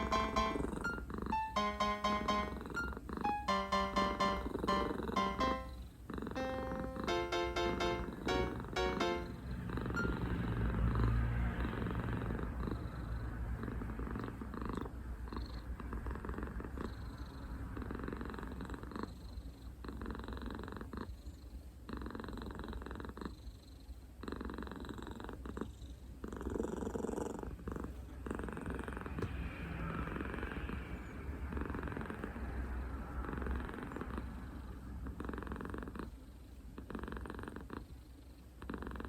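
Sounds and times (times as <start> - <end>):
cat purring: 0.0 - 29.3, 31.4 - 32.4, 33.2 - 39.0.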